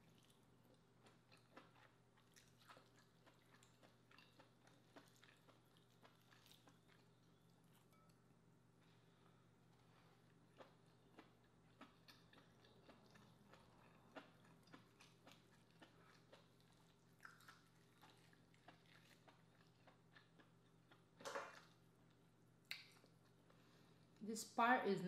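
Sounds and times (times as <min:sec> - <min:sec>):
wet chewing and mouth clicks: 0:00.0 - 0:08.1, 0:10.1 - 0:23.4.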